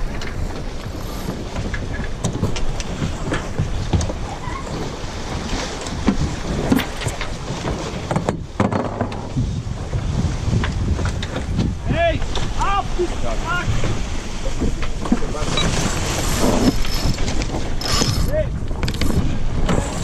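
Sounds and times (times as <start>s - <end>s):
rushing water: 0.0s - 20.0s
wind buffeting microphone: 0.0s - 20.0s.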